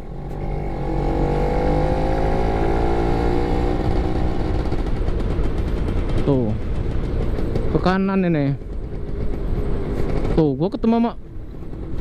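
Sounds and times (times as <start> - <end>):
two-stroke motorcycle engine running: 0.1 - 10.5.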